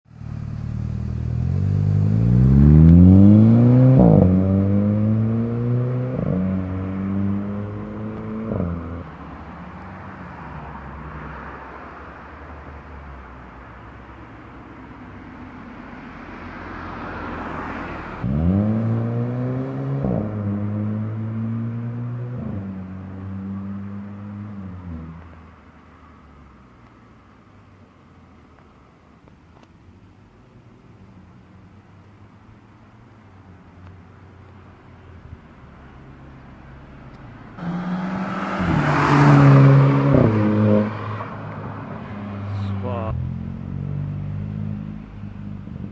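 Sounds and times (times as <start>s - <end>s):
car passing by: 0.1s - 26.8s, 34.8s - 45.9s.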